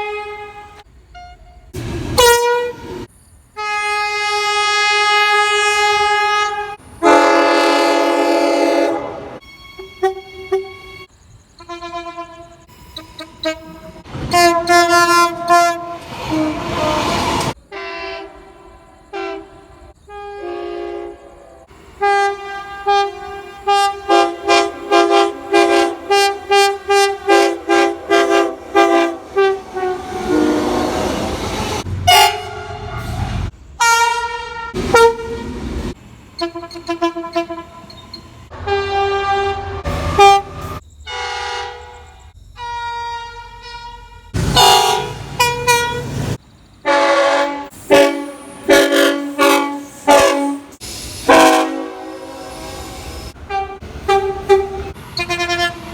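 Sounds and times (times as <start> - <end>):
passing trains rushing: 0.0 - 55.9
train air horns: 0.0 - 55.9.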